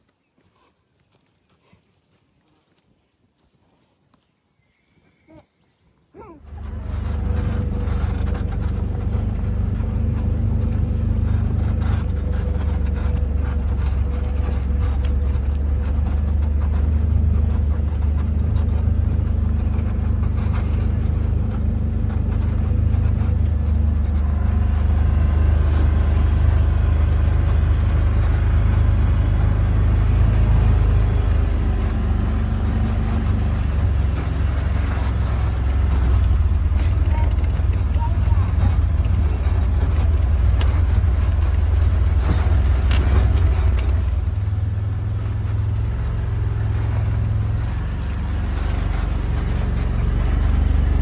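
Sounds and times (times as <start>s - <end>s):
vehicle engine running: 6.1s - 51.0s.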